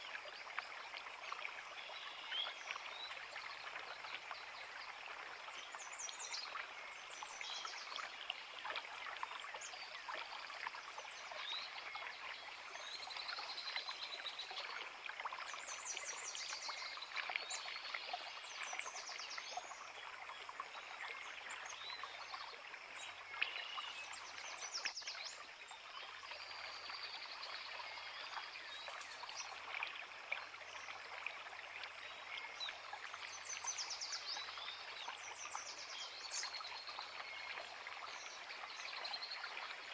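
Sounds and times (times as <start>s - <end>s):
creek water babbling over rocks: 0.0s - 39.9s.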